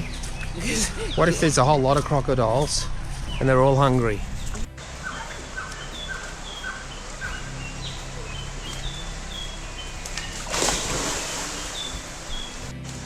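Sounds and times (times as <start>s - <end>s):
birds chirping: 0.0s - 13.0s
steady background hiss: 0.0s - 13.0s.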